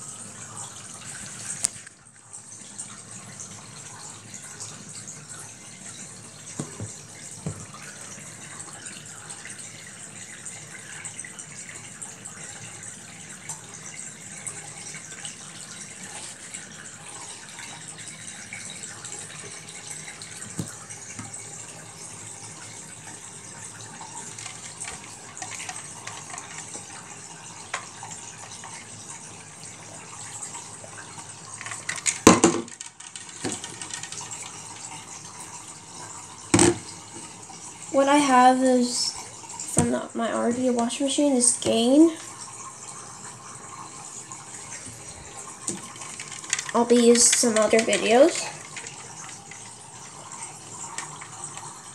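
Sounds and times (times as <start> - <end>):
water draining: 0.0 - 51.9.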